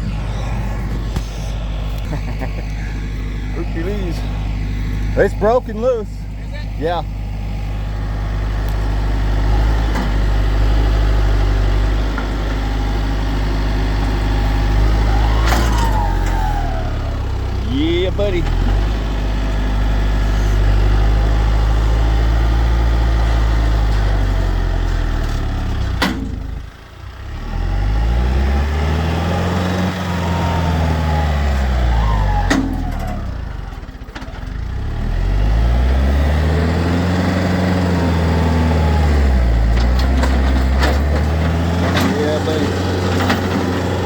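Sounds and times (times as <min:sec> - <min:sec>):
large engine revving: 0:00.0 - 0:44.0.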